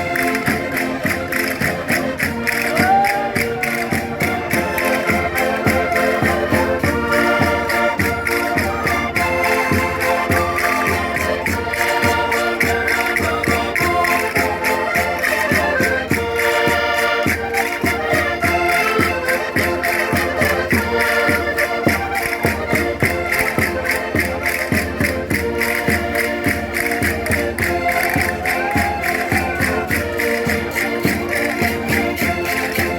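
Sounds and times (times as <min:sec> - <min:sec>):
concertinas playing folk dance tune: 0:00.0 - 0:32.9.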